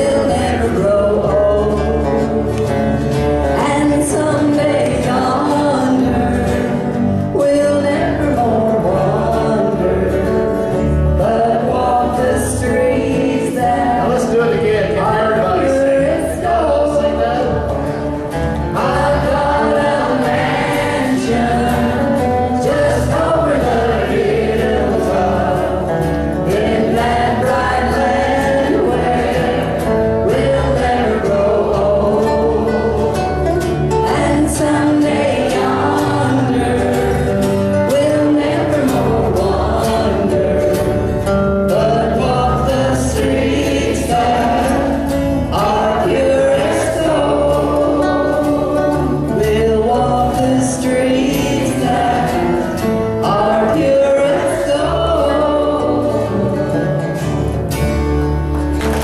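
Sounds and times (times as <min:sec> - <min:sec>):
person singing: 0:00.0 - 0:57.2
western swing band playing: 0:00.0 - 0:59.0.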